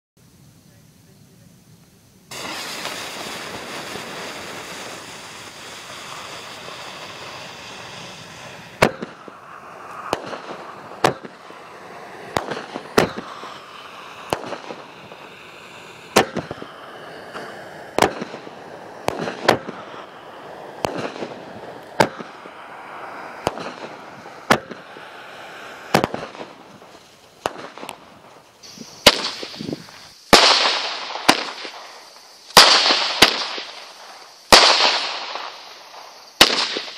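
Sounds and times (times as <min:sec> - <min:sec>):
crackling firework bursts: 0:00.2 - 0:36.9
firework hissing: 0:00.2 - 0:36.9
sharp firework shots: 0:02.3 - 0:36.9.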